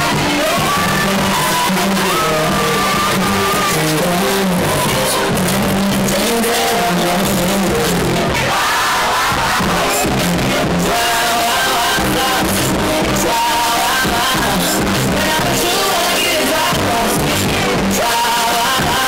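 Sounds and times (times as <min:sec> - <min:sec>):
loud music with singing: 0:00.0 - 0:19.0.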